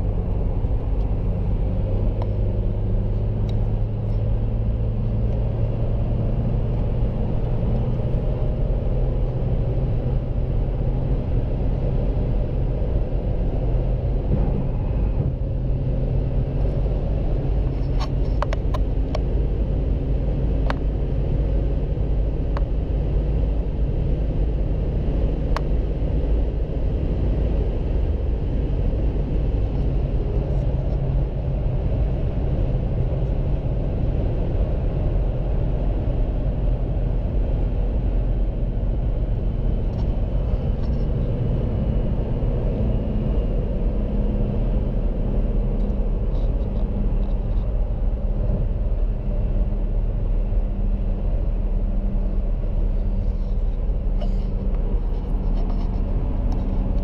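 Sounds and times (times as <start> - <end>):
vehicle running low rumble: 0.0 - 57.0.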